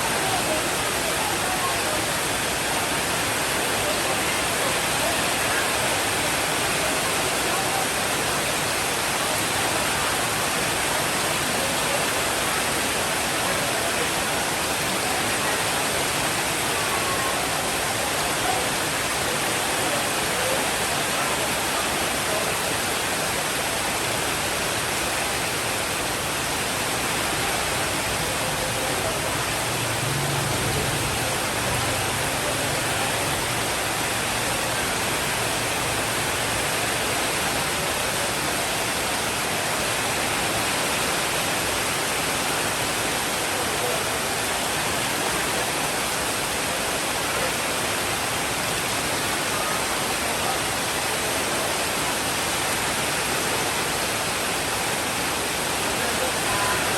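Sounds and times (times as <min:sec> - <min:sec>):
steady rainfall: 0:00.0 - 0:56.9.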